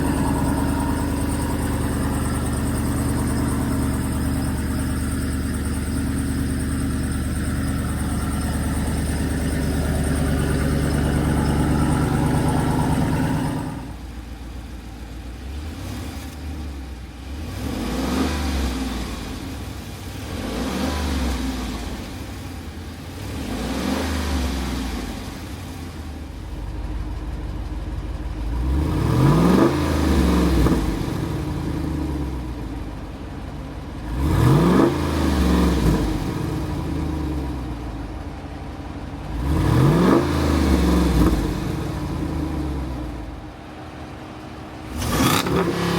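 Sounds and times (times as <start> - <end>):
car engine idling and revving: 0.0 - 45.9.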